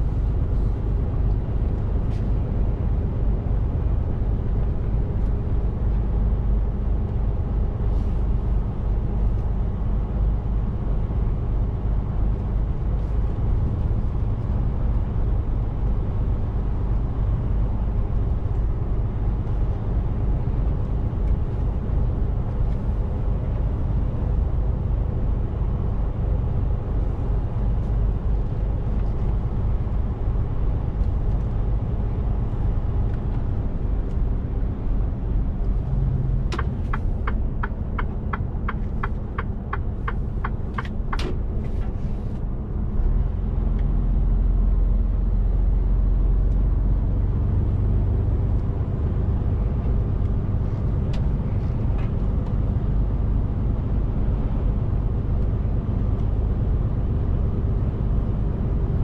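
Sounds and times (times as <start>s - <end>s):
diesel truck engine rumble: 0.0s - 59.0s
road noise inside cab: 0.0s - 59.0s.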